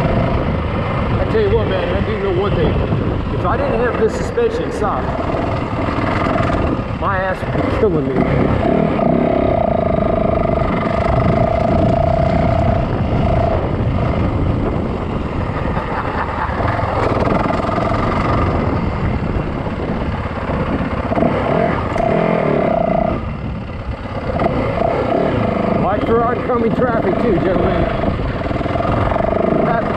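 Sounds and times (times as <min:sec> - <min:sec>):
dirt bike engine running: 0:00.0 - 0:29.9.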